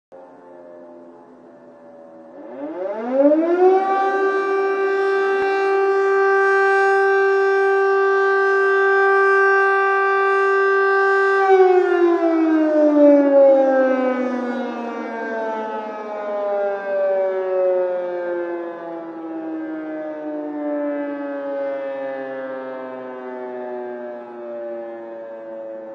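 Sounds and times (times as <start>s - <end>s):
air raid siren wailing: 0.1s - 25.9s.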